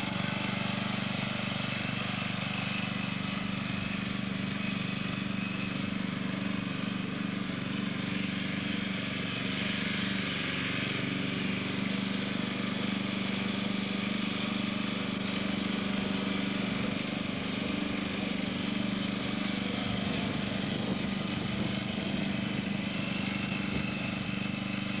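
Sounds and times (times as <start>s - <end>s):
lawn tractor engine droning: 0.0s - 25.0s.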